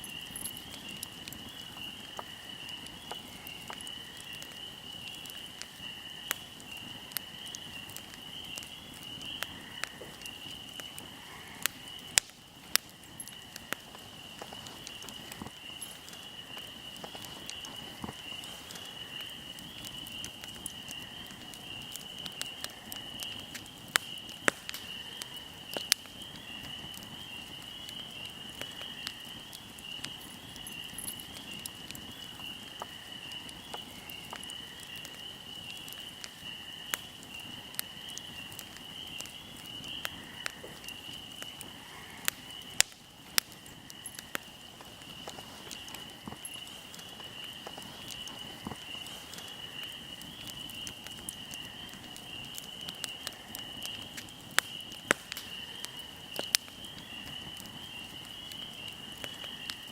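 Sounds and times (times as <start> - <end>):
fire low hiss: 0.0 - 59.9
insects chirring: 0.0 - 59.9
wood fire crackling and popping: 0.0 - 59.9.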